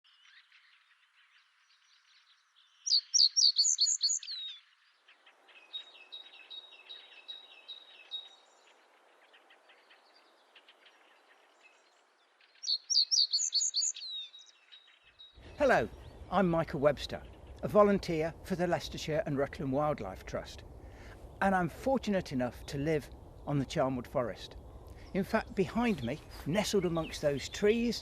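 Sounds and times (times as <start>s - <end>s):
other birds calling and singing: 0.1s - 28.0s.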